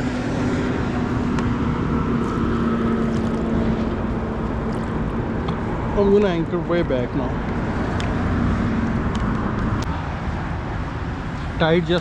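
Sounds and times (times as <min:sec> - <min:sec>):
high motor whine: 0:00.0 - 0:09.9
rumbling background: 0:00.0 - 0:10.5.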